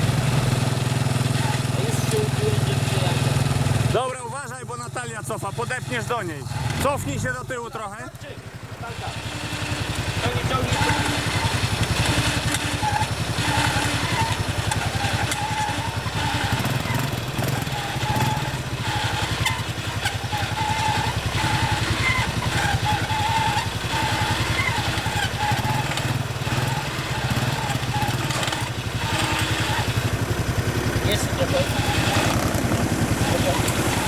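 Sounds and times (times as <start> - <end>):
engine running under load: 0.0 - 34.0.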